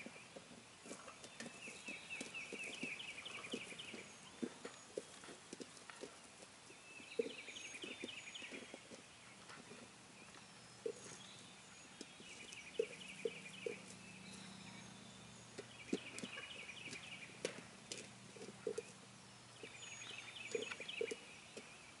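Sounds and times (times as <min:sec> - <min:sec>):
songbird chirping: 0:00.0 - 0:22.0
turkeys pecking at decoy: 0:00.0 - 0:22.0.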